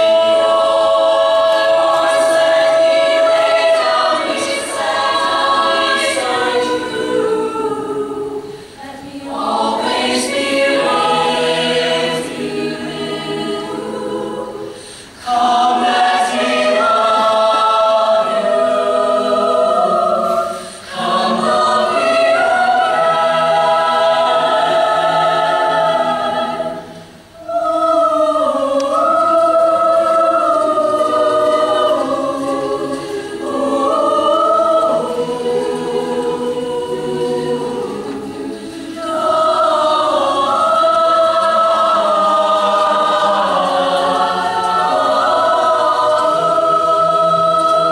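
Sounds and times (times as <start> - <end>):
choir singing held chords: 0.0 - 47.9.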